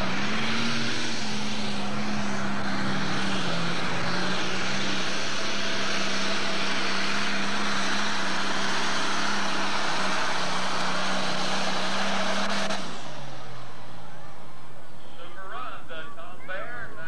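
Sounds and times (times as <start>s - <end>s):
diesel tractor engine under load: 0.0s - 17.0s.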